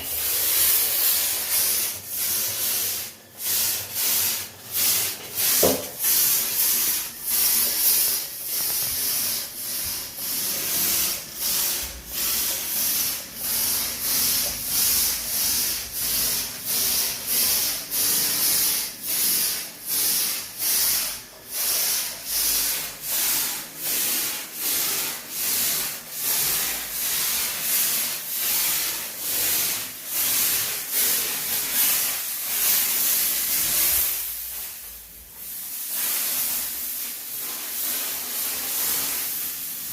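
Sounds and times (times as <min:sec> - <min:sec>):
sprayer hissing mist: 0:00.0 - 0:39.9.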